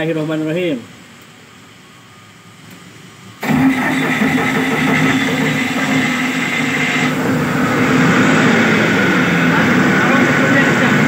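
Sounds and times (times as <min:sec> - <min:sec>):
diesel generator engine running: 0:01.0 - 0:11.0.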